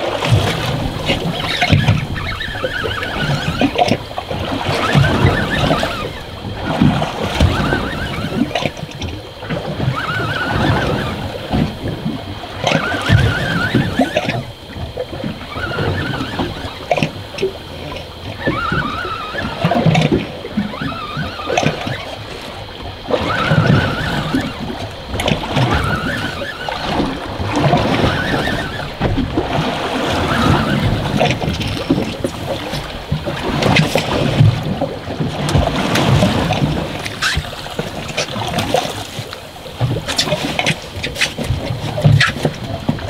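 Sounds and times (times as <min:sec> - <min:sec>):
waves slapping boat hull: 0:00.0 - 0:43.0
wind buffeting microphone: 0:00.0 - 0:43.0.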